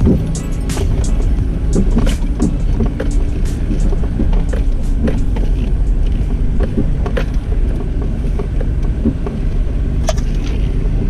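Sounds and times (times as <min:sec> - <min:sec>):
body and suspension rattles: 0:00.0 - 0:11.0
engine rumble: 0:00.0 - 0:11.0.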